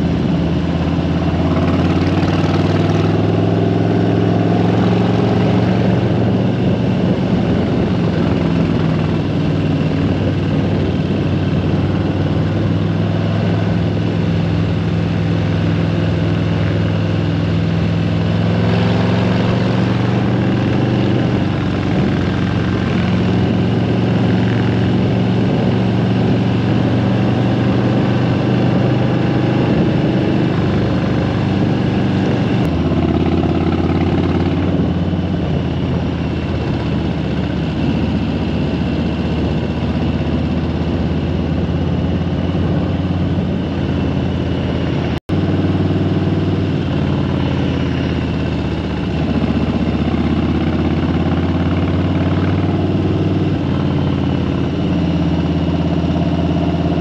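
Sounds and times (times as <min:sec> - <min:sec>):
motorcycle engine running: 0:00.0 - 0:57.0
road noise: 0:00.0 - 0:57.0
wind noise: 0:00.0 - 0:57.0.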